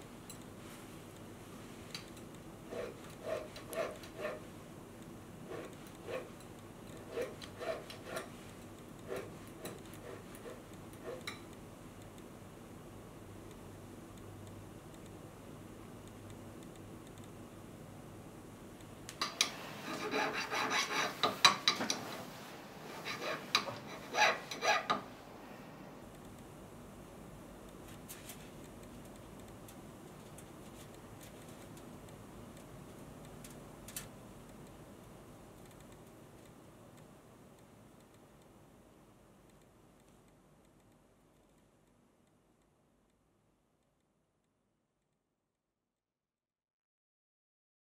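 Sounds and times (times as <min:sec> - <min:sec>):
faint room hiss: 0:00.0 - 0:45.4.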